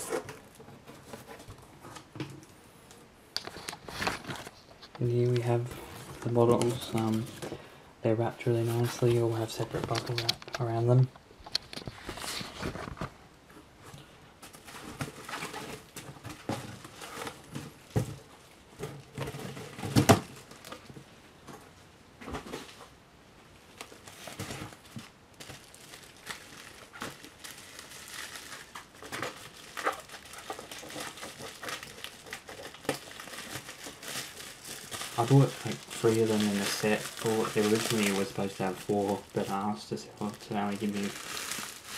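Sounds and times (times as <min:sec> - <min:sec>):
cardboard and bubble wrap rustling: 0:00.0 - 0:02.5, 0:03.4 - 0:07.7, 0:08.4 - 0:23.0, 0:23.6 - 0:41.9.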